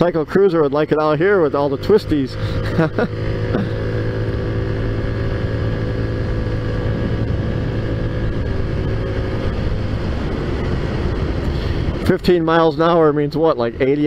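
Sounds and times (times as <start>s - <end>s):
road and wind noise: 0.0s - 14.0s
scooter engine cruising: 0.0s - 14.0s.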